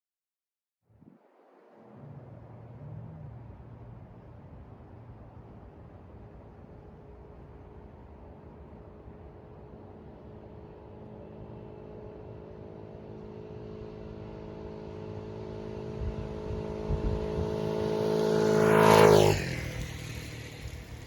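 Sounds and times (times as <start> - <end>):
scooter engine passing by: 1.7 - 21.0.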